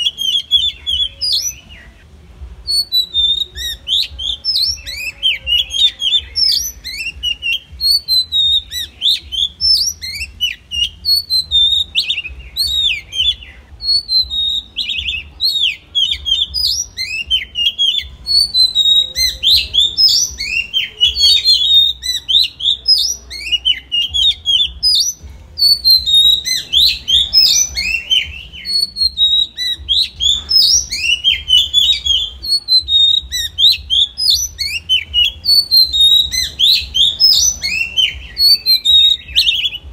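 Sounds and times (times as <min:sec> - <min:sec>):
bird singing whistled phrases: 0:00.0 - 0:02.0, 0:02.6 - 0:39.9.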